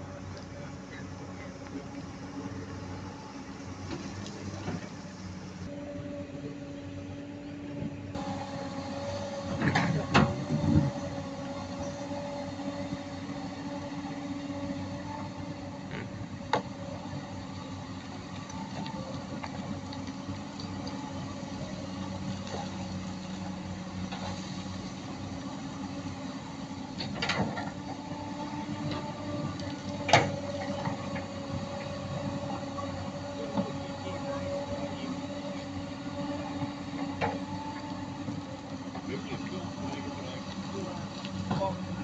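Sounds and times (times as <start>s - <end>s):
excavator engines and hydraulics: 0.0s - 42.0s.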